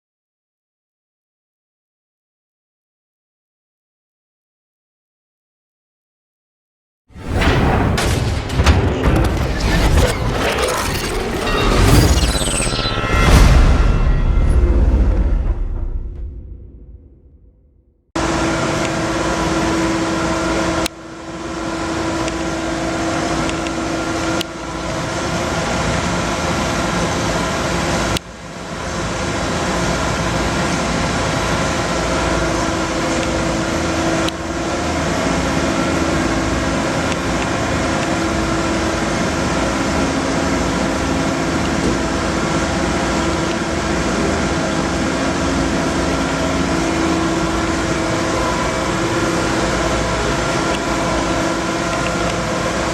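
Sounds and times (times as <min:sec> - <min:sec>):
industrial machinery humming: 0:07.2 - 0:52.9.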